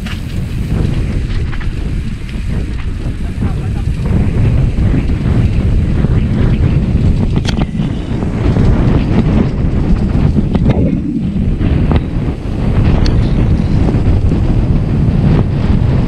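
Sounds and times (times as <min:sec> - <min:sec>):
dirt bike engine rumble: 0:00.0 - 0:16.0
wind buffeting microphone: 0:00.0 - 0:16.0.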